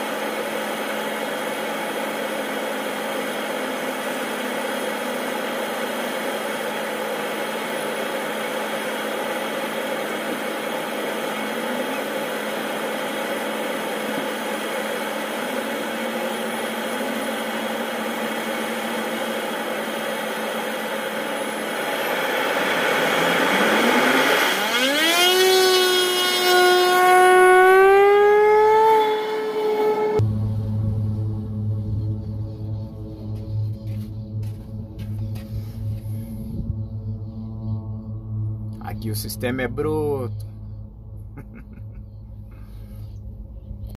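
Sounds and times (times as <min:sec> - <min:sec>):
turboprop engine whine: 0:00.0 - 0:43.9.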